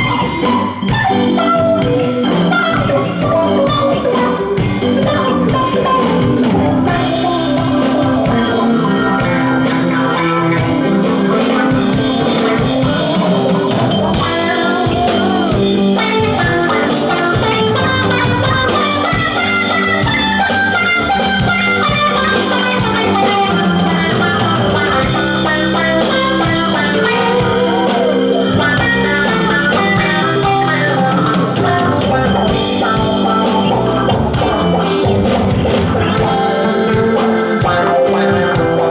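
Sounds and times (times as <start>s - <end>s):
lead electric guitar: 0.0s - 38.9s
rock band playing: 0.0s - 38.9s.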